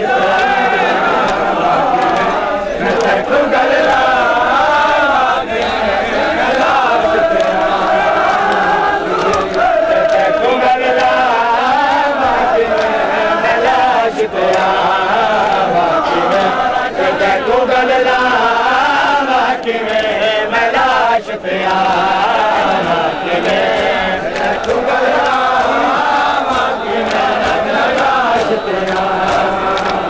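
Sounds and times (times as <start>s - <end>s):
men chanting together: 0.0s - 30.0s.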